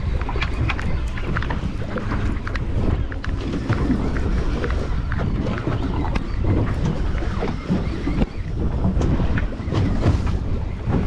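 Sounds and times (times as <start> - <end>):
water sloshing against hull: 0.0 - 11.0
wind buffeting microphone: 0.0 - 11.0.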